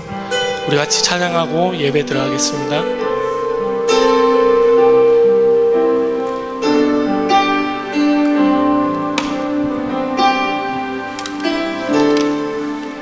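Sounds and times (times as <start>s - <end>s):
sustained keyboard chords: 0.0s - 13.0s.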